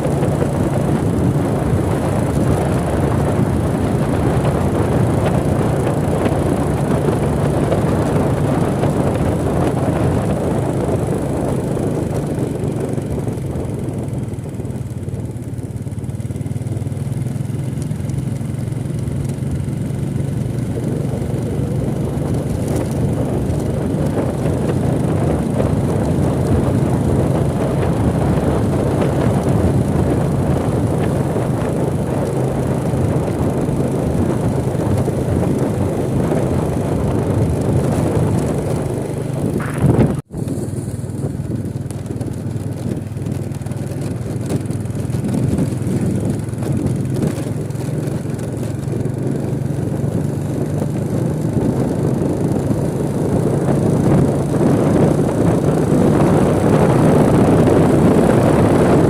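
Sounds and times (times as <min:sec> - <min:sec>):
vehicle engine hum and road noise: 0:00.0 - 0:59.0.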